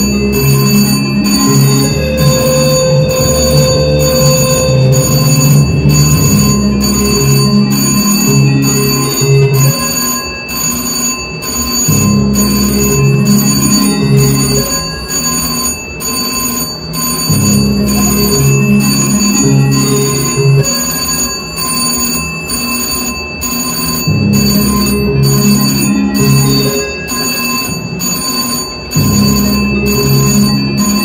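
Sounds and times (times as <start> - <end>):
bell-like electronic tones: 0.0 - 31.0
slot machine spin jingle: 0.0 - 31.0.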